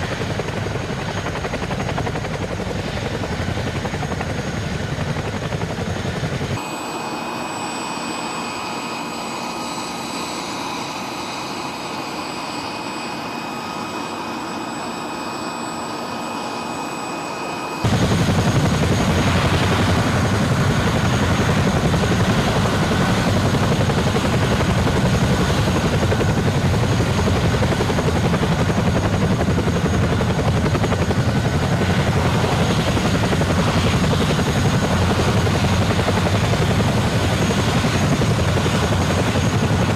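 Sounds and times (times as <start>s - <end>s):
helicopter engine and rotor noise: 0.0s - 39.9s
helicopter turbine whine: 0.0s - 39.9s.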